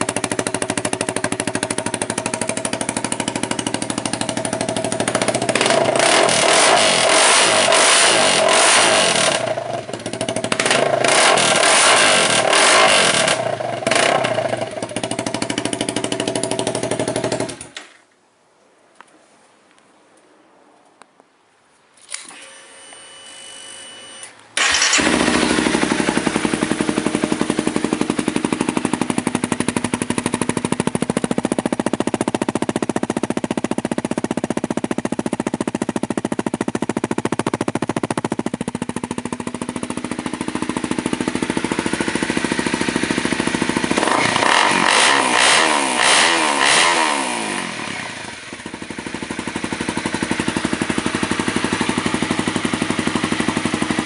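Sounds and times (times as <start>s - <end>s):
motorcycle engine revving: 0.0s - 17.8s, 24.6s - 54.0s
motorcycle engine starting and idling: 0.0s - 18.1s, 22.0s - 54.0s.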